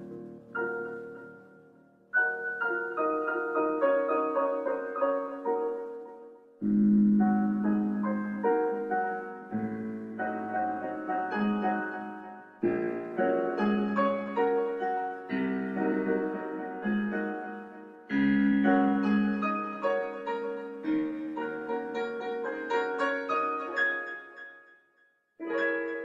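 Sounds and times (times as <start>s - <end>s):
soft piano music: 0.0s - 24.8s, 25.4s - 26.0s.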